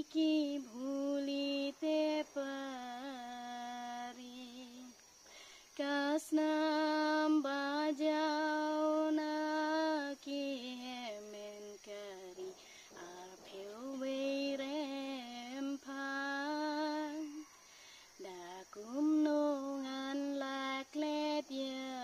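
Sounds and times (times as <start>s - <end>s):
woman singing unaccompanied: 0.0s - 22.0s.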